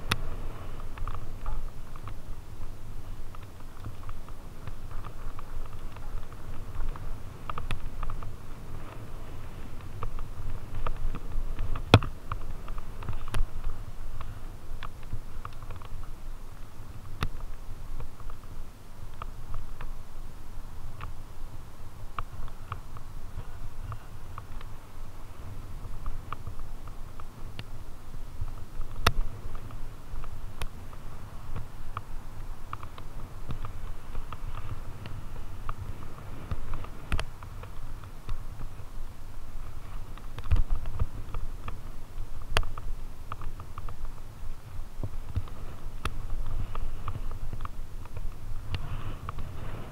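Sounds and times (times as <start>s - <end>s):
bike clicks and rattles: 0.0s - 20.1s, 20.8s - 49.9s
bike tyres rumbling on dirt: 0.0s - 49.9s.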